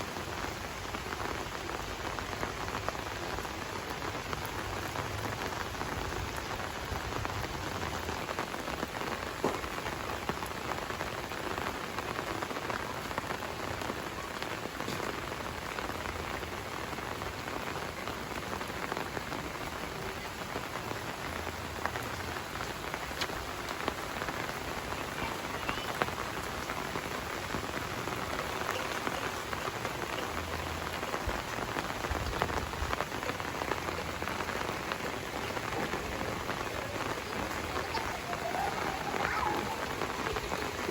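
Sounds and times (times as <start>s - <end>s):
raindrops ticking: 0.0s - 40.9s
steady rain hiss: 0.0s - 40.9s.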